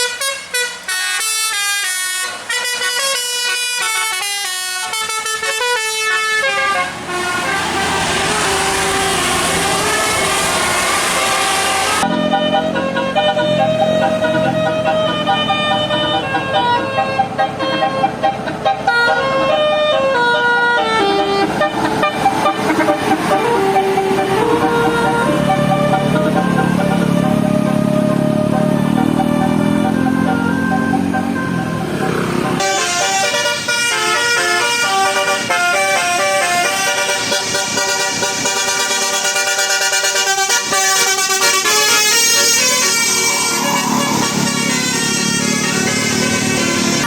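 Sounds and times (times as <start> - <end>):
musical bus horn tune: 0.0 - 47.0.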